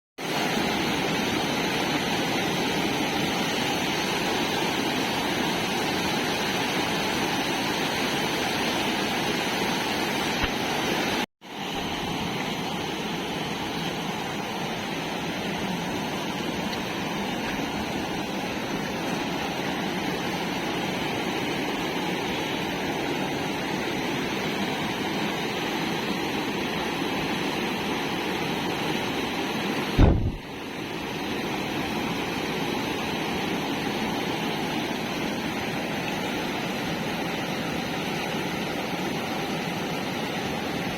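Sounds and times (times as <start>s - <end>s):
river floodwater roaring: 0.2s - 40.9s.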